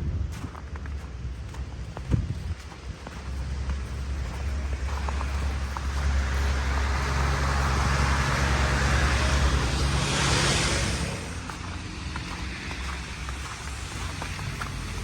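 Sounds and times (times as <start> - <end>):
steady low rumble: 0.0 - 15.0
car driving past on snow: 0.3 - 15.0.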